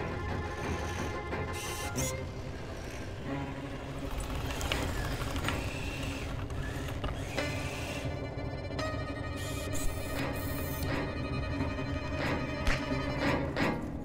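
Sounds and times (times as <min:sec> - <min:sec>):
small motors whining: 0:00.0 - 0:12.5
low mechanical rumble: 0:00.0 - 0:14.0.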